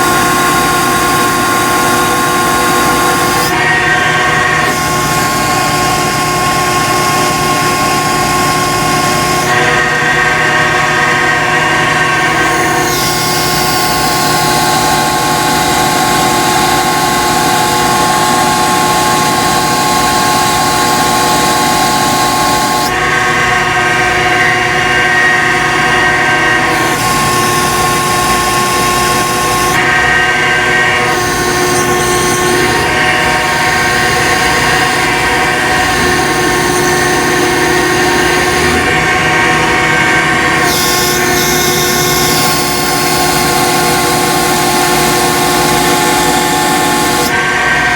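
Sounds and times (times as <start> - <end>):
loud mechanical drone: 0.0 - 47.9.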